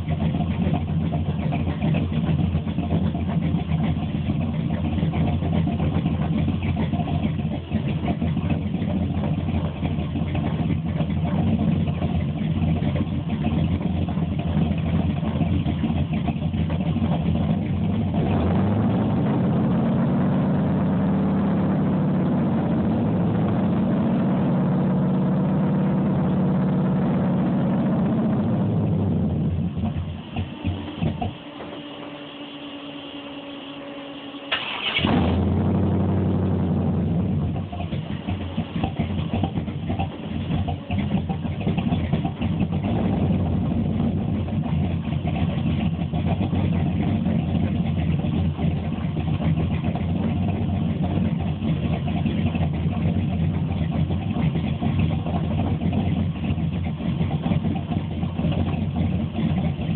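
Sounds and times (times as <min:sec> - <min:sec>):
vee eight engine running: 0:00.0 - 0:59.9.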